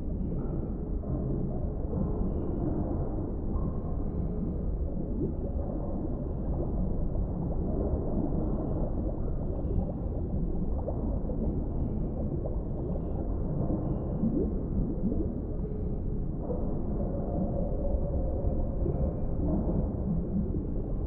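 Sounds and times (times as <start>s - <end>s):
low underwater rumble: 0.0s - 21.0s
water gurgles: 0.1s - 21.0s.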